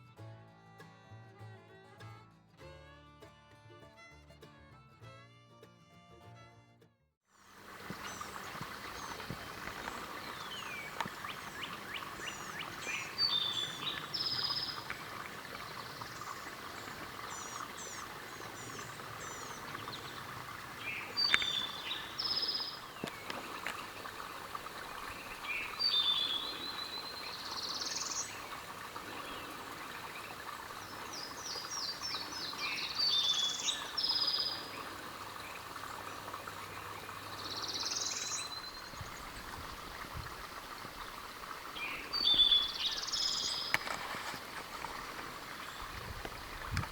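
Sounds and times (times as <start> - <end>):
background bird chorus: 7.6 - 46.9
songbirds singing: 7.6 - 46.9.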